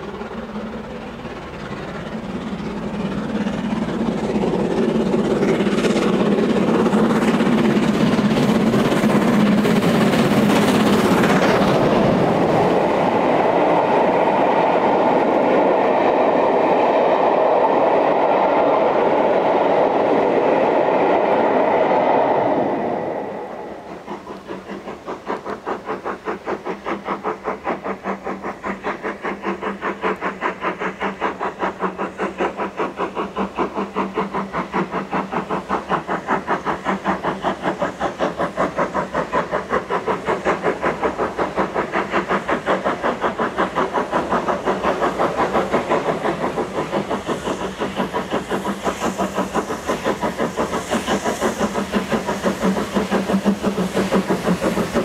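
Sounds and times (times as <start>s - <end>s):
steam hiss: 0.0s - 55.0s
steam locomotive chuffing: 0.0s - 55.0s.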